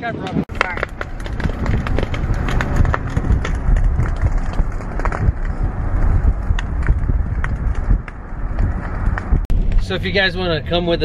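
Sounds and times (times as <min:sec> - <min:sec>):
sharp cracks and knocks: 0:00.5 - 0:09.8
van driving low rumble: 0:00.5 - 0:11.0.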